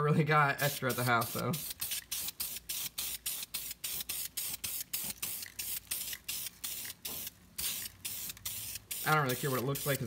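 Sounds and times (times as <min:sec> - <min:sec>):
spray paint hissing bursts: 0:00.6 - 0:10.0.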